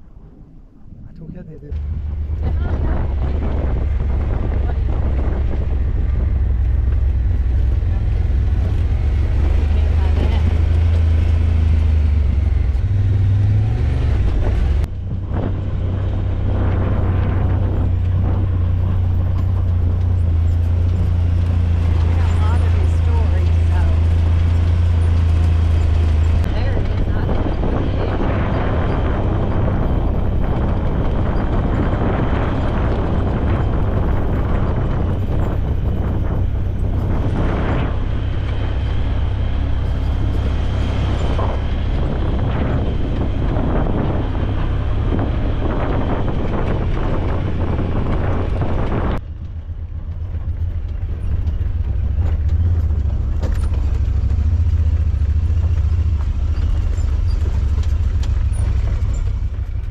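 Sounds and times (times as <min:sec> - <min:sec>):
road and engine noise: 0:00.0 - 0:59.9
wind buffeting on microphone: 0:00.0 - 0:59.9.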